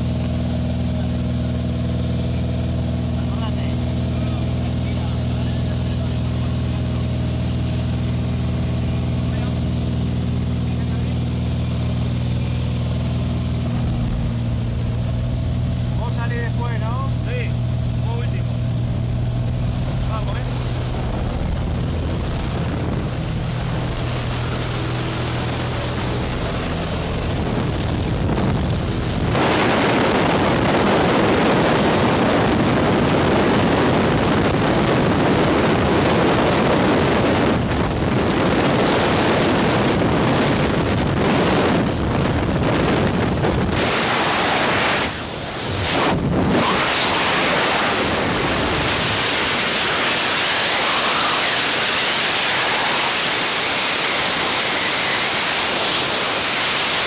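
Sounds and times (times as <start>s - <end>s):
freefall wind roar on microphone: 0.0s - 57.0s
plane engine hum: 0.0s - 57.0s.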